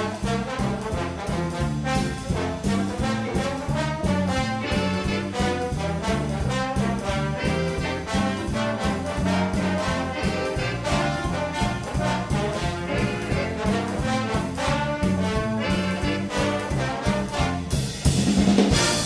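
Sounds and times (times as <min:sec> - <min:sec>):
big band jazz: 0:00.0 - 0:19.0.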